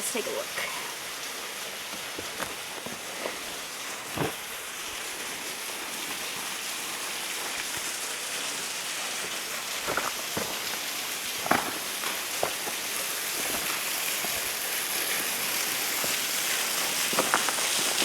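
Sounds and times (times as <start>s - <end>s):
waterfall splashing into pool: 0.0s - 18.0s.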